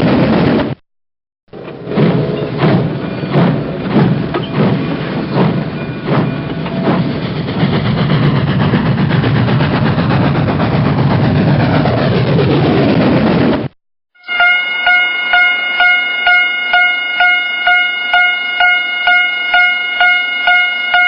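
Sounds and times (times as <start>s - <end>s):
train rumbling: 0.0s - 0.8s, 1.5s - 21.0s.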